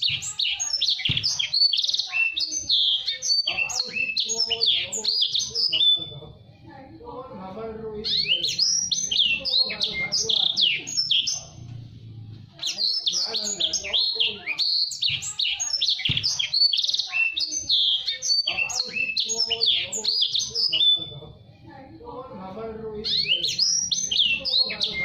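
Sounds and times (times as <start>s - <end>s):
canary singing chirps and trills: 0.0s - 21.9s, 22.6s - 25.0s.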